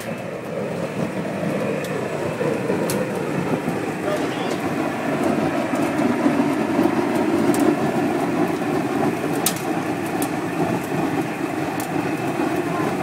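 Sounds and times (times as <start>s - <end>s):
burner flame roaring: 0.0s - 13.0s
sharp crackles: 0.0s - 13.0s.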